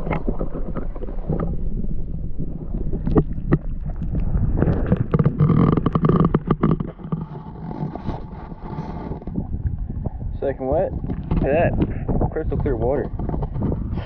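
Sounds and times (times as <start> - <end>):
muffled water sloshing and gurgling: 0.0 - 14.0
wet microphone crackling: 0.0 - 14.0.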